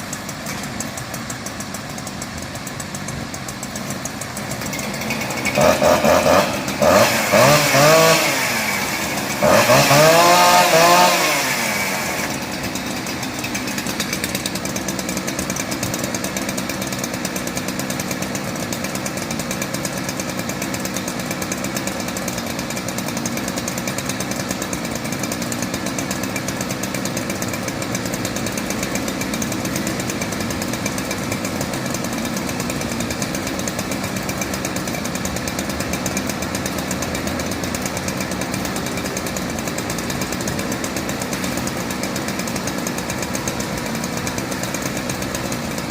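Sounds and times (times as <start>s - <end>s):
engine revving and idling: 0.0s - 45.9s.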